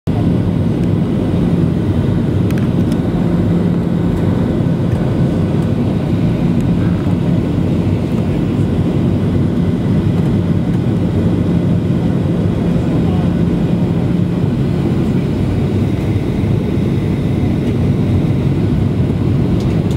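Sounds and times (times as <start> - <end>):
jet engines in cabin: 0.1 - 19.9
steady low hum: 0.1 - 19.9.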